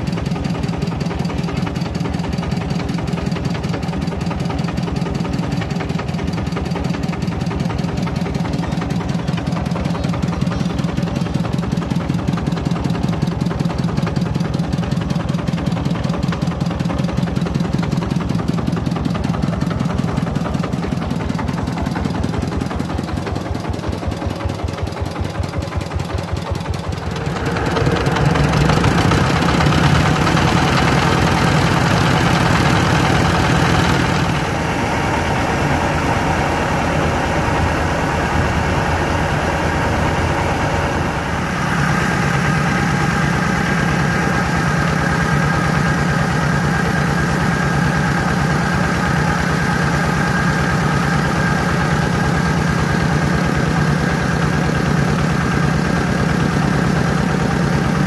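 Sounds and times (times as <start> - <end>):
engine pulsing steadily: 0.0 - 58.0.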